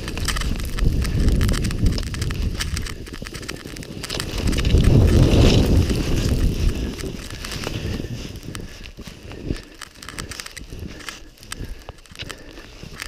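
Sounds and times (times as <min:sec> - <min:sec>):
ski pole plants: 0:00.0 - 0:13.0
skis crunching through snow: 0:00.0 - 0:13.0
wind on microphone: 0:00.0 - 0:13.0.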